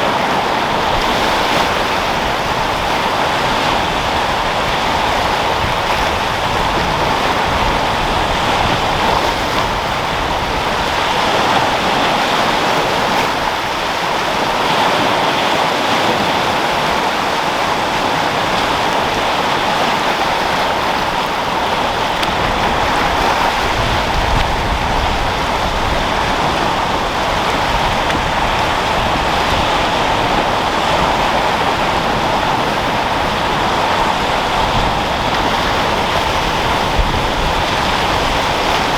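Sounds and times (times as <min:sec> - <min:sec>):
sea waves breaking: 0:00.0 - 0:38.9
wind blowing: 0:00.0 - 0:38.9.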